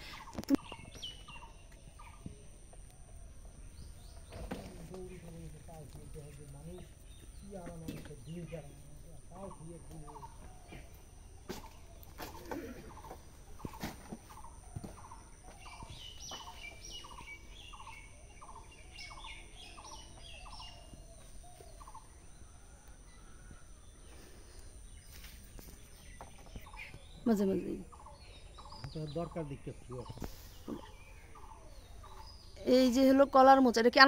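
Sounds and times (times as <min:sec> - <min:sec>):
birds calling with falling notes: 0:00.0 - 0:34.0.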